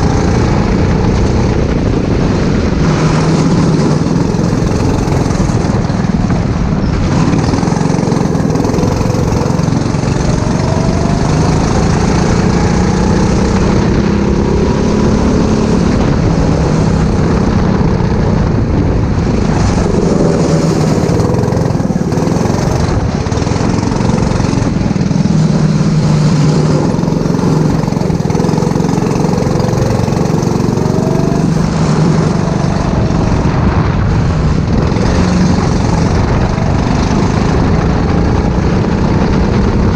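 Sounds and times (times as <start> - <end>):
go-kart engine revving: 0.0 - 39.9
steady rushing noise: 0.0 - 39.9.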